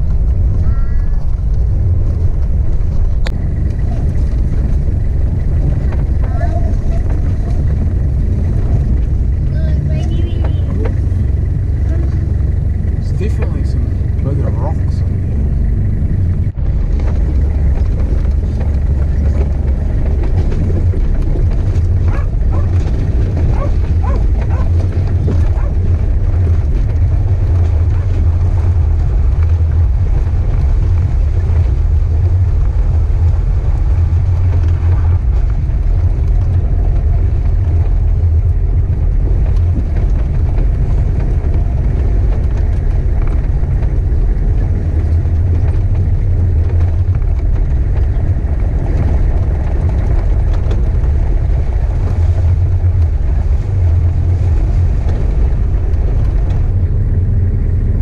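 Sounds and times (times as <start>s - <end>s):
driving over gravel and water: 0.0s - 58.0s
engine and tyres rumbling: 0.0s - 58.0s.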